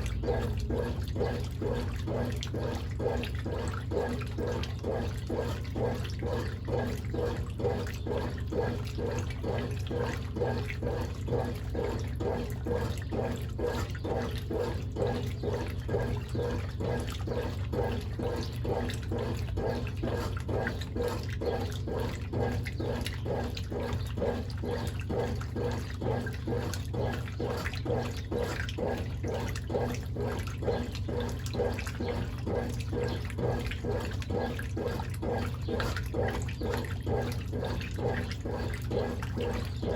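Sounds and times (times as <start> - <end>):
low motor hum: 0.0 - 39.9
washing machine churning water: 0.0 - 39.9.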